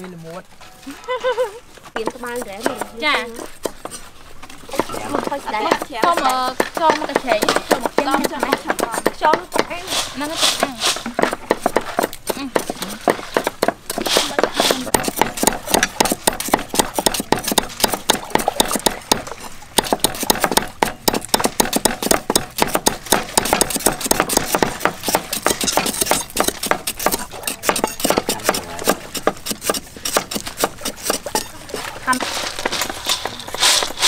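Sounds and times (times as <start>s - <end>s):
cleavers chopping on wood blocks: 1.9s - 4.1s, 4.7s - 34.0s.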